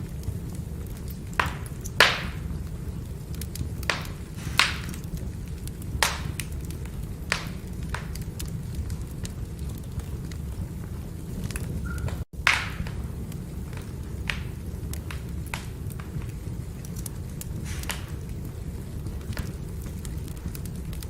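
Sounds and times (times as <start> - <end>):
logs cracking and popping: 0.0 - 21.0
low rumble of flame: 0.0 - 21.0.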